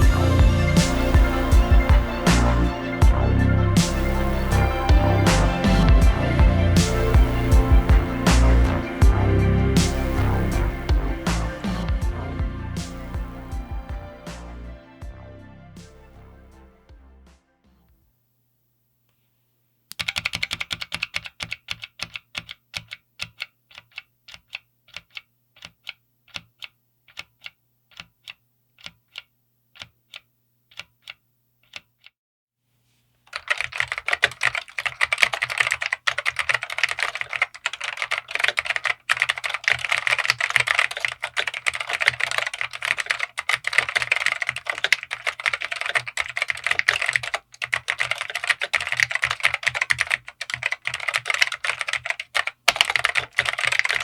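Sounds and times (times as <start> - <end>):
keyboard typing: 0.0 - 14.6, 19.9 - 32.1, 33.3 - 54.0.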